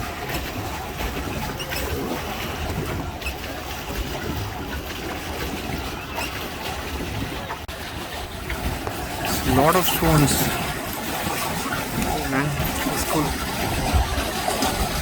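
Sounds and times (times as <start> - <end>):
water churning and lapping: 0.0 - 15.0
wind buffeting microphone: 0.0 - 15.0.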